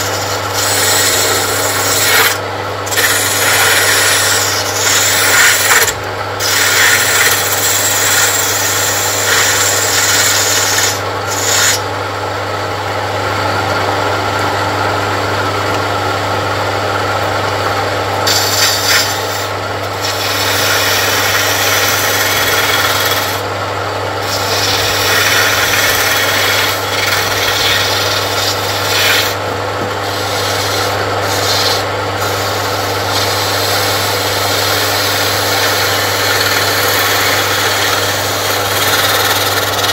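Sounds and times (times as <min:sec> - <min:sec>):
electric motor humming: 0:00.0 - 0:11.9, 0:17.6 - 0:23.5, 0:24.2 - 0:39.9
gouge cutting wood on a lathe: 0:00.0 - 0:11.9, 0:18.2 - 0:23.5, 0:24.2 - 0:39.9.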